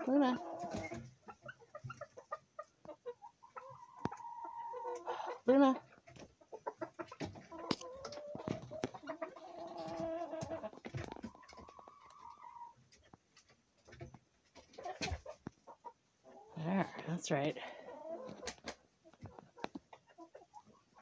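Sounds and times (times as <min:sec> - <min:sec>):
chickens calling: 0:00.0 - 0:21.0.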